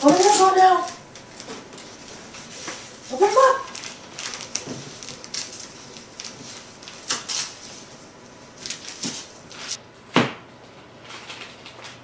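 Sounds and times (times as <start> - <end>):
wrapping paper crinkling and tearing: 0.0 - 8.0, 8.6 - 9.8, 11.0 - 12.0.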